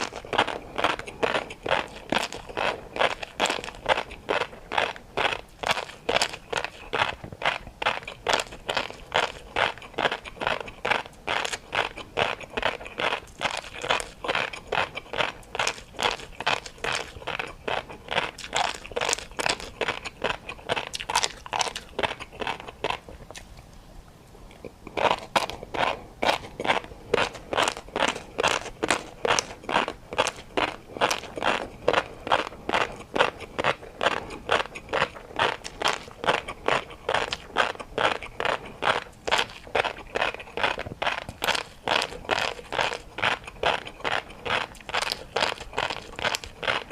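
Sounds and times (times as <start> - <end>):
person chewing crunchy food: 0.0 - 46.9.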